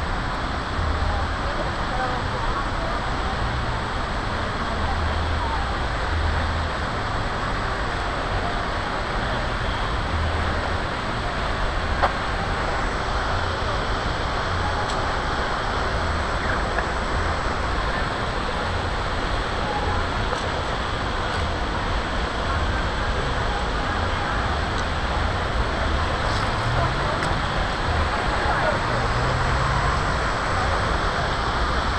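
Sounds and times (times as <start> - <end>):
road traffic noise: 0.0 - 31.9.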